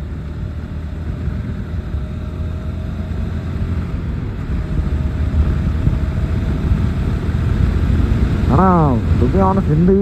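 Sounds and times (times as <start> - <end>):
muffled motorcycle engine: 0.0 - 10.0
wind rumble: 0.0 - 10.0.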